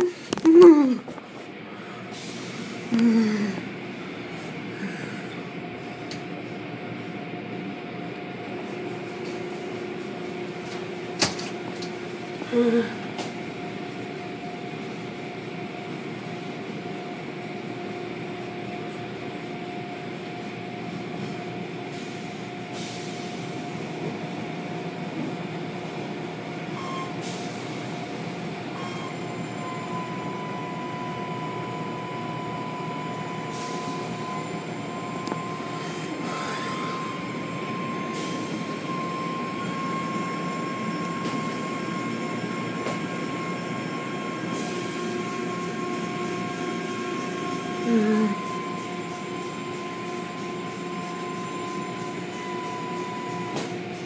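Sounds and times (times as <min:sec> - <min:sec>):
steady whine: 0:00.0 - 0:22.7, 0:23.4 - 0:54.0
car wash machinery hum: 0:00.0 - 0:54.0.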